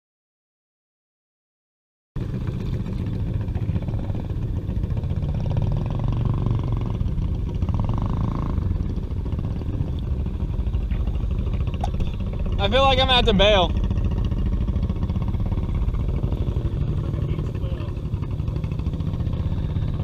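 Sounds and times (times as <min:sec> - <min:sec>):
atv engine running under load: 0:02.2 - 0:20.0
vehicle wading through water: 0:02.2 - 0:20.0.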